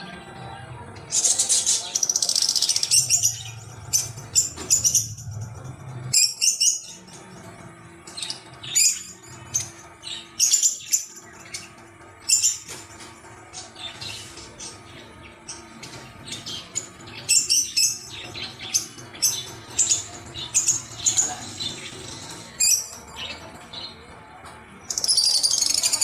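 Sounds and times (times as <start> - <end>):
high-pitched chirps and squeaks: 1.0 - 12.8, 13.5 - 24.0, 24.9 - 26.0.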